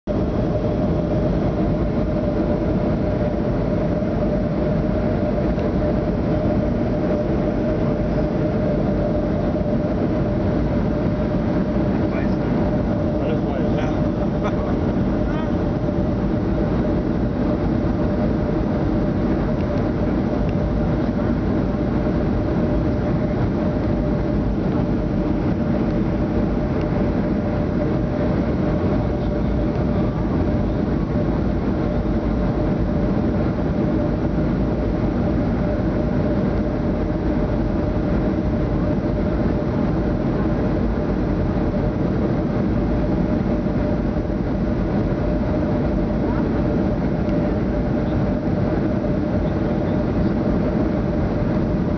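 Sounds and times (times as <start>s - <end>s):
jet engines roaring: 0.1s - 51.9s.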